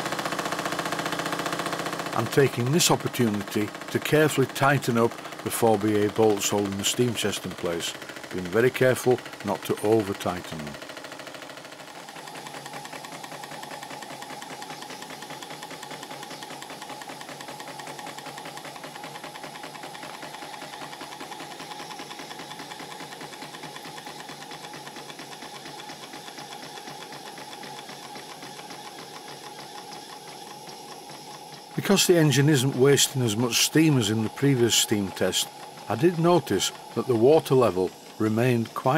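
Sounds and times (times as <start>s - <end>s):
model steam engine running: 0.0s - 38.9s.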